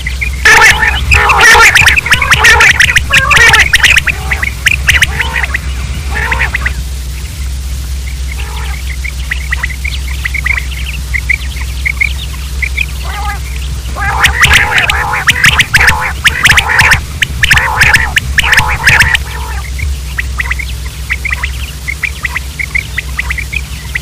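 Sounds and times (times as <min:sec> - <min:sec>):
low hum: 0:00.0 - 0:24.0
quails squawking: 0:00.0 - 0:24.0.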